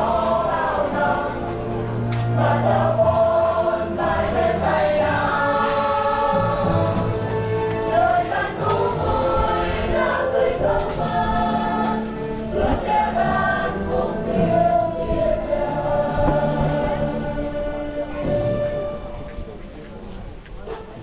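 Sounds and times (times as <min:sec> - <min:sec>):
church choir singing a hymn: 0:00.0 - 0:18.6.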